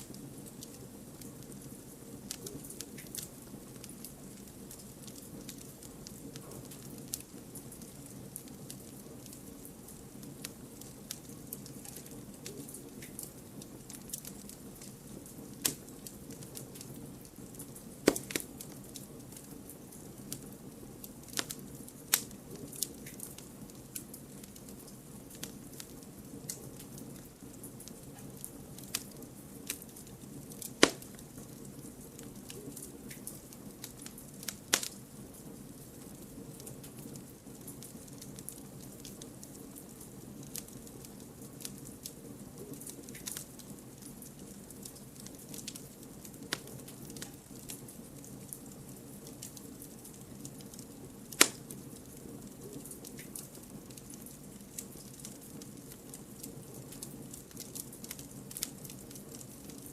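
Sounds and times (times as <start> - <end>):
firewood crackling and popping: 0.0 - 59.9
low rush of flames: 0.0 - 59.9.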